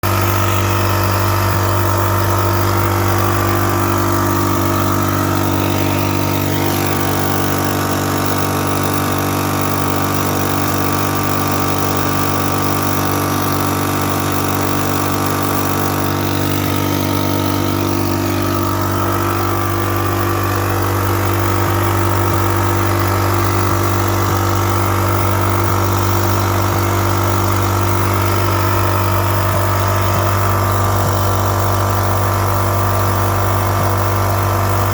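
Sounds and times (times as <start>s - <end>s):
portable generator engine running: 0.0s - 34.9s.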